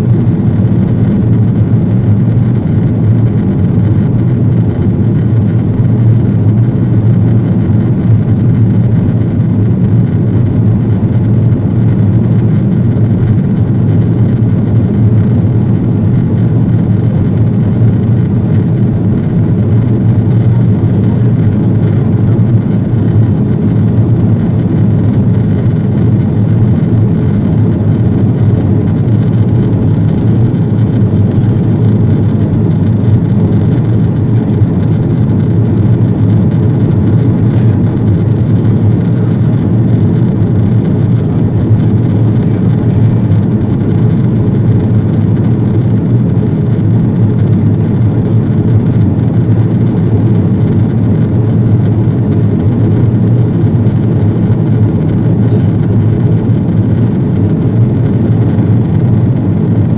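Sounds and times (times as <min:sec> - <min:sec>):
jet engines roaring: 0:00.0 - 0:49.0
deep steady hum: 0:00.0 - 0:59.9.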